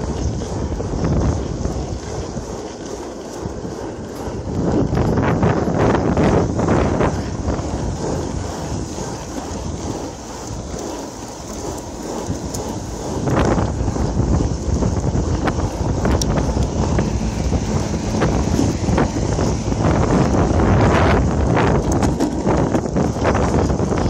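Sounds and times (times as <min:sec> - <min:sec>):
longboard wheels rolling on asphalt: 0:00.0 - 0:24.0
wind rumbling on microphone: 0:00.0 - 0:24.0.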